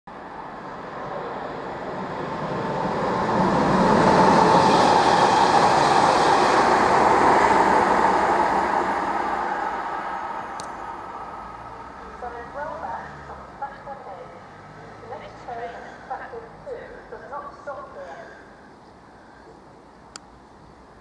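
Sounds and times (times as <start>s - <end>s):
train passing by: 0.1s - 21.0s.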